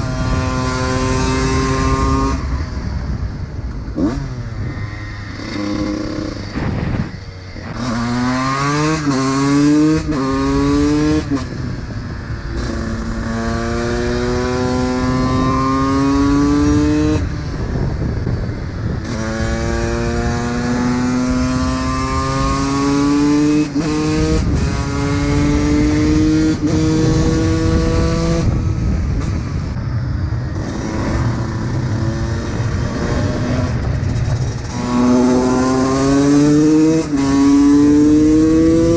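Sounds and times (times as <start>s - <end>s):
two-stroke motorcycle accelerating: 0.0s - 38.9s.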